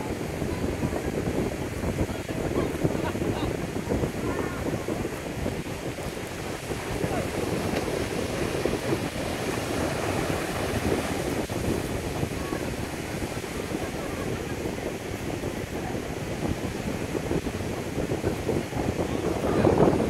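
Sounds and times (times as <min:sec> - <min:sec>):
waves breaking on beach: 0:00.0 - 0:20.0
wind rumbling on microphone: 0:00.0 - 0:20.0.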